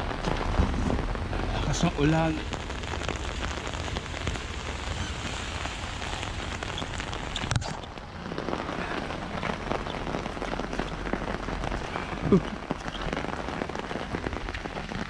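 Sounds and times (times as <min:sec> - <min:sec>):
heavy rain on an umbrella: 0:00.0 - 0:15.0.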